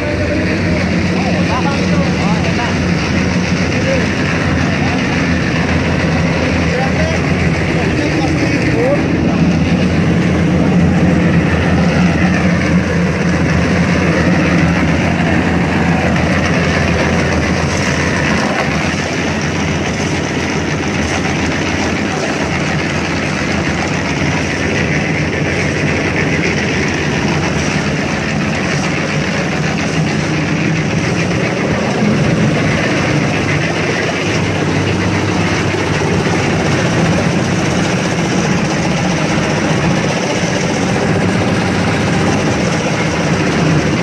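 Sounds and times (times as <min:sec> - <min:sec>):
concrete mixer engine running: 0:00.0 - 0:44.0
mixer drum turning on gear: 0:00.0 - 0:44.0.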